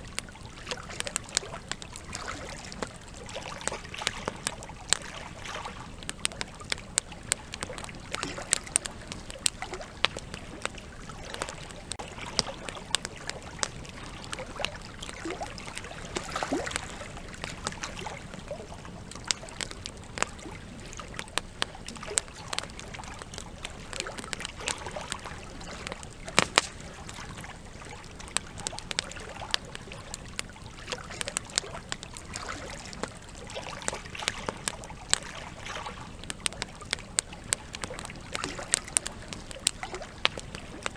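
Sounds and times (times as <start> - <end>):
river rushing and trickling: 0.0 - 36.1
campfire crackling and popping: 0.0 - 40.9.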